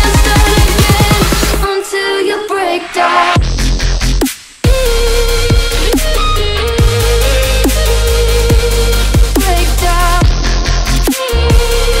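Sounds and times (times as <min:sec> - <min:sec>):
dubstep music with deep bass: 0:00.0 - 0:12.0.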